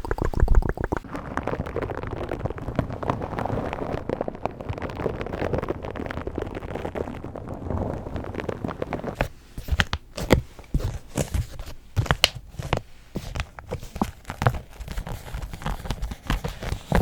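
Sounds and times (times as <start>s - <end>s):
ball crackling on microphone: 0.0s - 17.0s.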